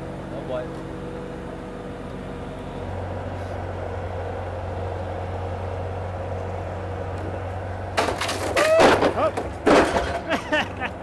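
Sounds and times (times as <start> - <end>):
loader engine running: 0.0 - 11.0.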